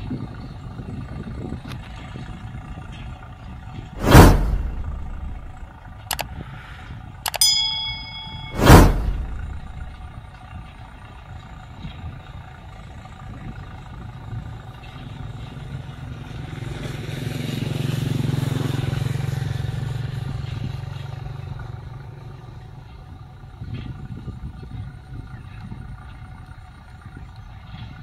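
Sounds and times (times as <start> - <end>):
tractor diesel engine running: 0.0 - 16.9, 19.0 - 28.0.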